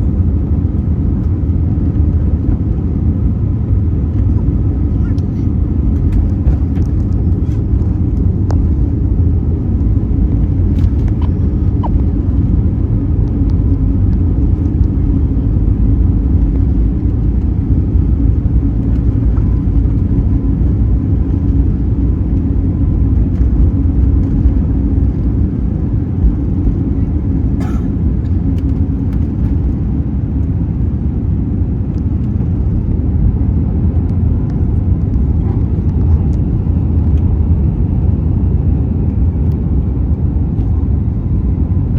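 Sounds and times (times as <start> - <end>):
jet engines during take-off: 0.0 - 41.9.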